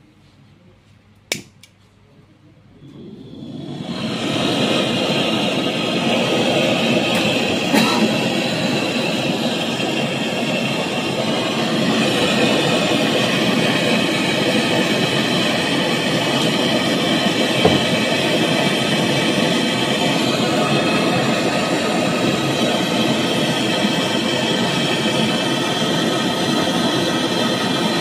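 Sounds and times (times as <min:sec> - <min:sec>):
gas torch hissing: 0:02.7 - 0:28.0.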